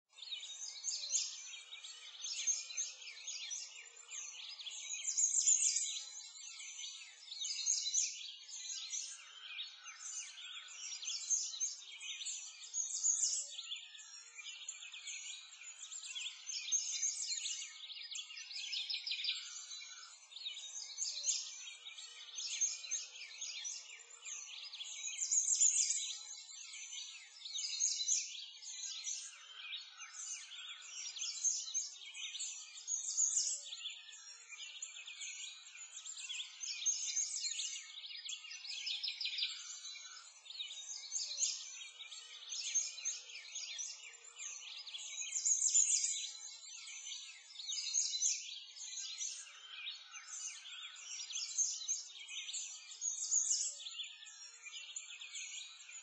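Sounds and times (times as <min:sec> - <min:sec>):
chorus of birds chirping: 0:00.0 - 0:56.0.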